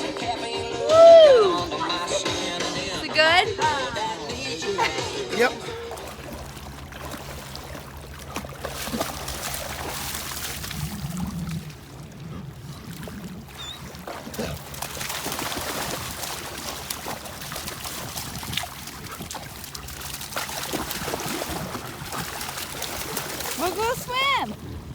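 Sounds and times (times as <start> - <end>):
water trickling around kayak: 3.0 - 24.9.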